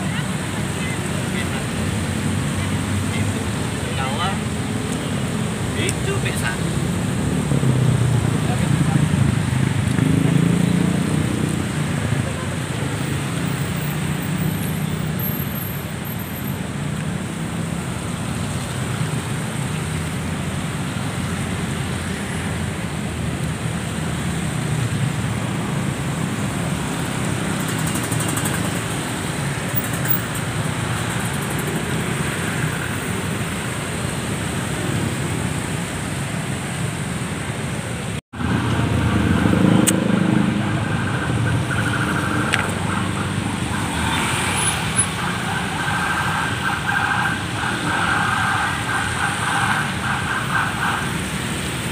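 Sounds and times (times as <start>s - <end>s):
cars on wet road: 0.0s - 51.9s
cars passing on busy road: 0.0s - 51.9s.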